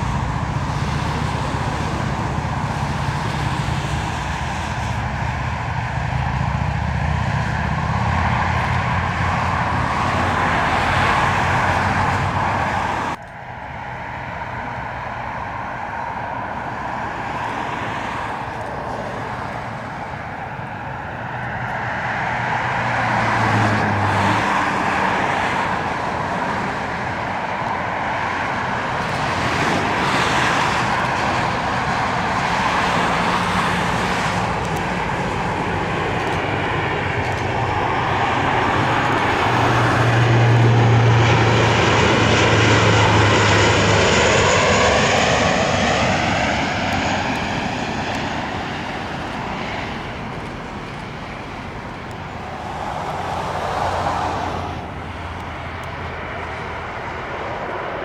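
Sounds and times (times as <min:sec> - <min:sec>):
aircraft engine overhead: 0:00.0 - 0:58.0.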